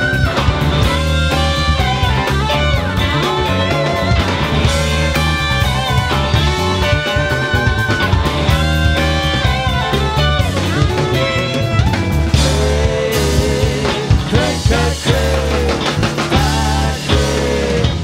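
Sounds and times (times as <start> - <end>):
bass: 0.0 - 18.0
drum kit: 0.0 - 18.0
electric guitars: 0.0 - 18.0
keyboards: 0.0 - 18.0.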